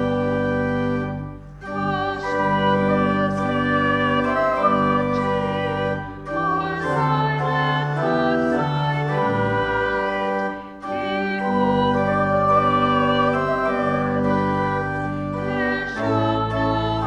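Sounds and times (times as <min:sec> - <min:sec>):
church organ playing a hymn: 0:00.0 - 0:17.0
voices singing along: 0:01.6 - 0:17.0.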